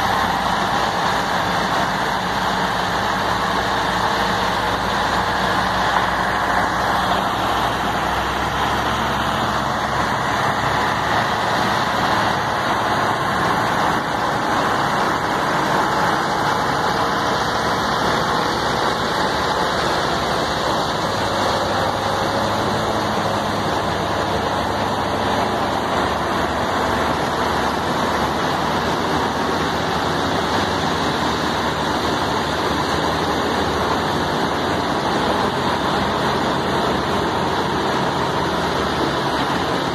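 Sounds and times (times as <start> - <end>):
diesel truck engines under load: 0.0 - 39.9.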